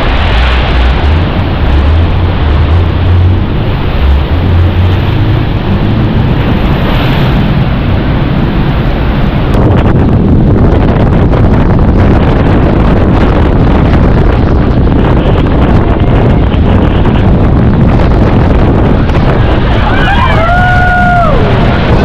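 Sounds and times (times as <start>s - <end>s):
rushing water roar: 0.0s - 22.0s
wind buffeting microphone: 0.0s - 22.0s.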